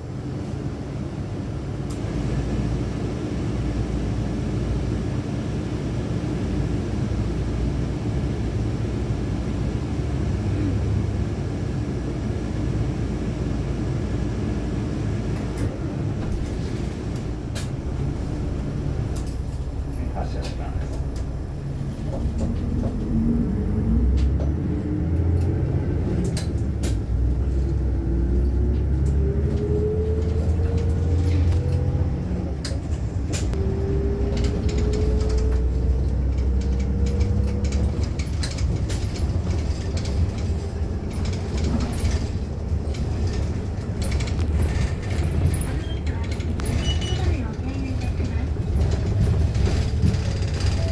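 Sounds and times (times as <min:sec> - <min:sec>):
bus engine rumble and whine: 0:00.0 - 0:50.9.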